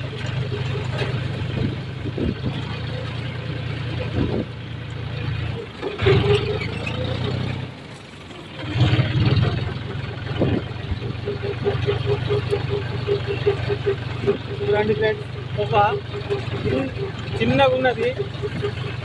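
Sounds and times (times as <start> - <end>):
knocks and rattles from bumps: 0.0 - 7.7, 8.6 - 19.0
tractor engine running: 0.0 - 19.0.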